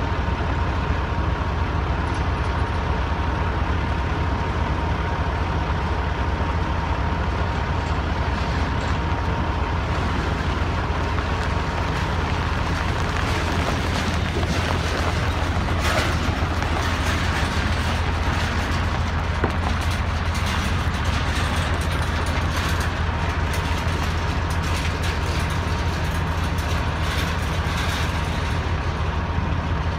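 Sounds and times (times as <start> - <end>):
diesel truck engines rumbling: 0.0 - 29.9
trailer rattling: 0.0 - 29.9.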